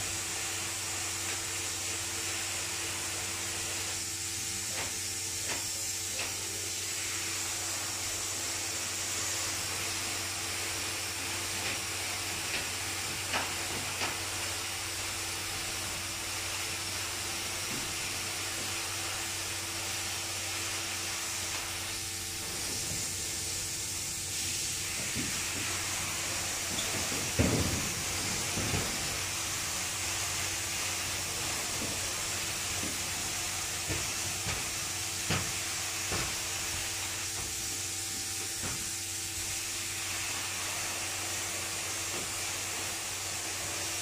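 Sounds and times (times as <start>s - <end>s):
spray foam gun hissing: 0.0s - 44.0s.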